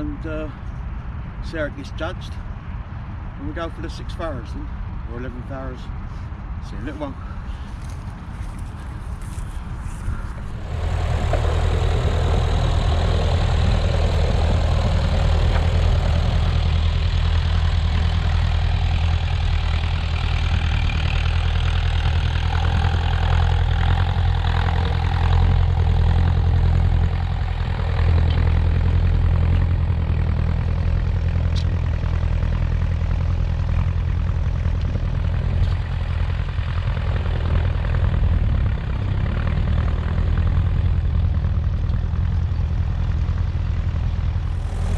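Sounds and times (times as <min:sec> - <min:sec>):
tractor diesel engine droning: 0:08.8 - 0:44.9.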